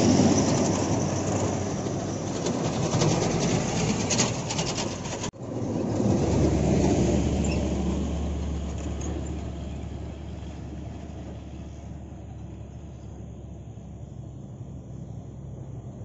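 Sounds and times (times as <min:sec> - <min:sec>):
low engine drone: 0:00.0 - 0:16.0
road rumble: 0:00.0 - 0:16.0
truck rattling on stone road: 0:00.0 - 0:16.0.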